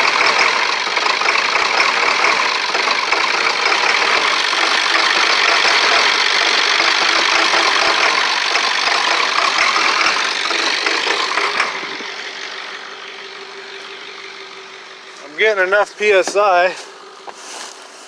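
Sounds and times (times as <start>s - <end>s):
diesel engine clattering: 0.0s - 18.0s.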